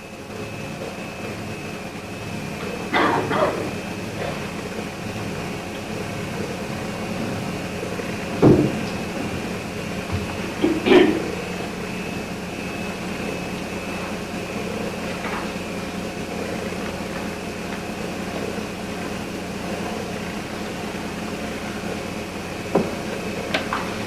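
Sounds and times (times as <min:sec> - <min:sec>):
room hum and hiss: 0:00.0 - 0:24.0.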